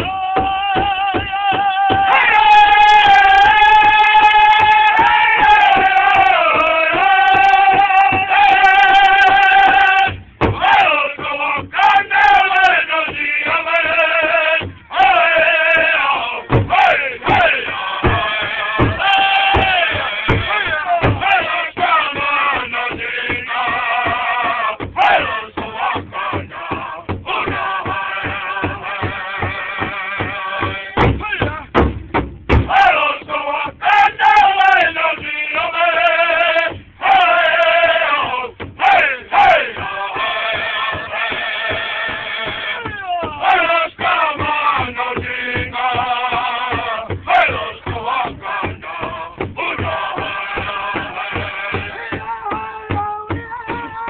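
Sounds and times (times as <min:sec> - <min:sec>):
men singing high-pitched song: 0:00.0 - 0:31.7, 0:32.6 - 0:54.0
large drum beating: 0:00.0 - 0:35.7, 0:36.6 - 0:54.0.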